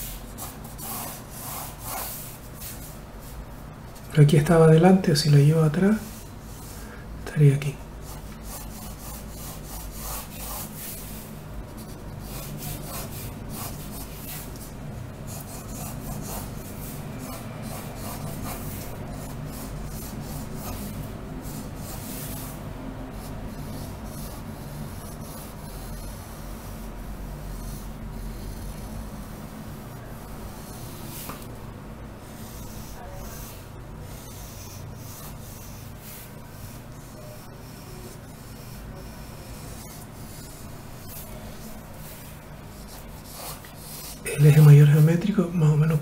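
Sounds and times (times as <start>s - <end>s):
pencil scratching on paper: 0.0s - 4.6s, 5.7s - 6.9s, 8.0s - 31.5s, 32.2s - 45.2s.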